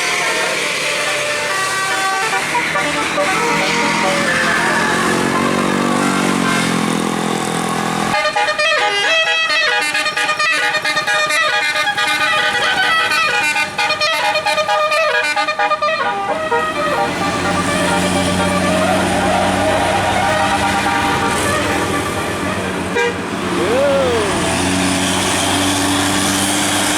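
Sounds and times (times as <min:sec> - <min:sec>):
multi-tone bus horn melody: 0:00.0 - 0:26.5
bus engine passing: 0:00.0 - 0:26.9.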